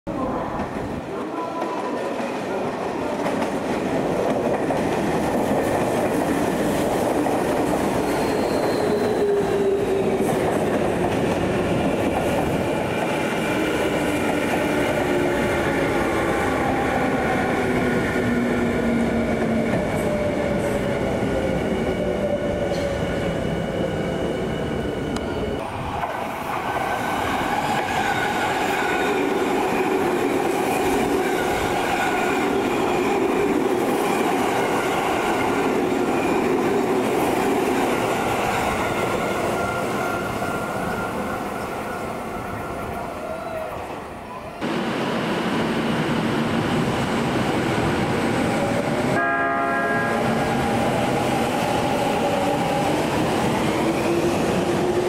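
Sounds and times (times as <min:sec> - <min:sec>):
train wheels on rail: 0:00.2 - 0:49.2, 0:50.0 - 0:55.0.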